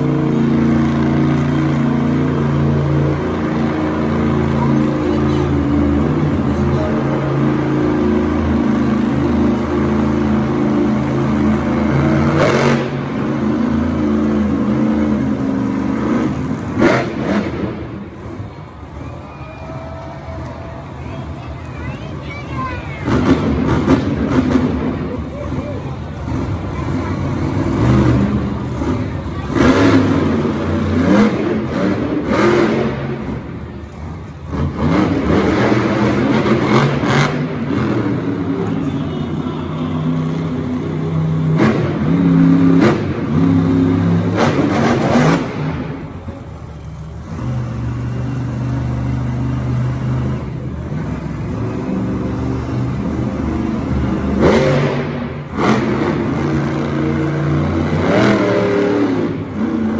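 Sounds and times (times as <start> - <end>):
truck engine revving hard: 0.0 - 19.0, 22.8 - 59.9.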